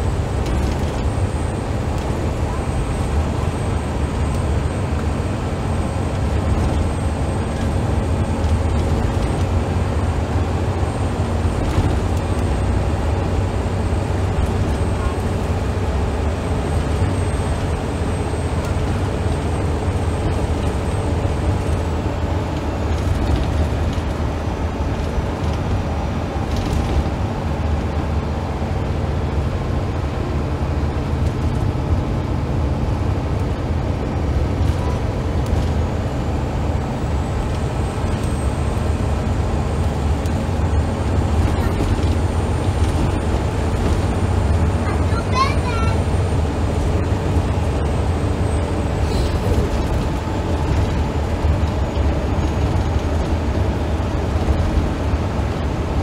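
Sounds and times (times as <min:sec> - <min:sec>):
bus diesel engine running: 0:00.0 - 0:56.0
tyre and road noise: 0:00.0 - 0:56.0.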